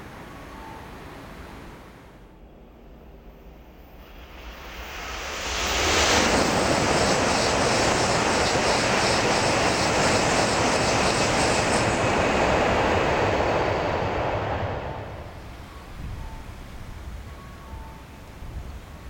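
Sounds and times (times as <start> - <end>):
bullet train passing: 0.0 - 19.0.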